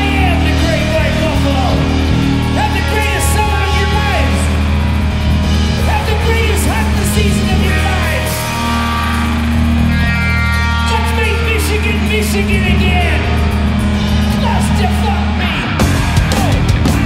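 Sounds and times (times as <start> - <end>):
bass guitar: 0.0 - 17.0
distorted electric guitar: 0.0 - 17.0
drum kit: 0.0 - 17.0.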